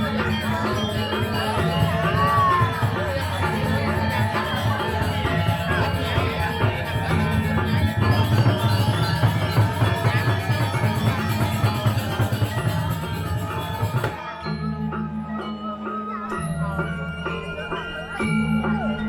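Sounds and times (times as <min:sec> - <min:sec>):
drums: 0:00.0 - 0:15.6
gamelan metallophones: 0:00.0 - 0:19.0.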